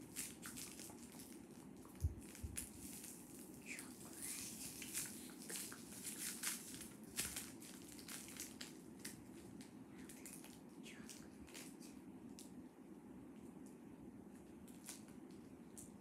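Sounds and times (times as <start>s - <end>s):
cellophane wrapper crinkling: 0.0s - 12.5s, 14.6s - 15.9s.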